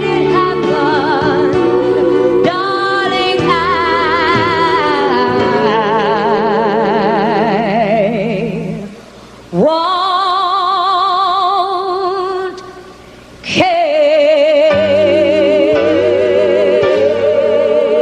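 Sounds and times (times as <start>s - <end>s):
woman singing a slow ballad: 0.0s - 8.9s, 9.5s - 17.2s.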